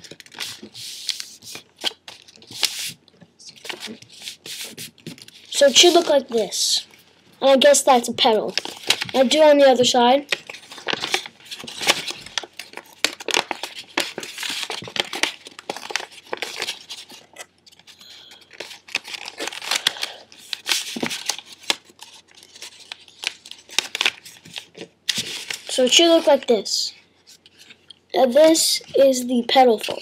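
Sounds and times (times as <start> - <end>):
paper crinkling and rustling: 0.0 - 7.1, 8.2 - 26.4.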